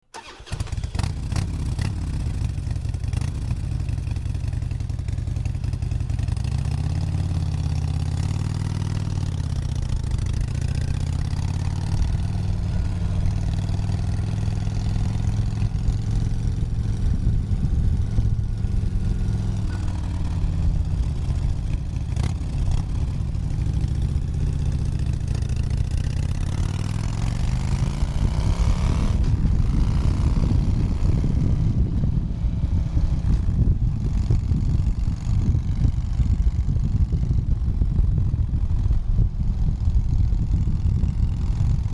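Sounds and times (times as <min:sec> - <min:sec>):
motorcycle engine starting and idling: 0:00.1 - 0:41.9.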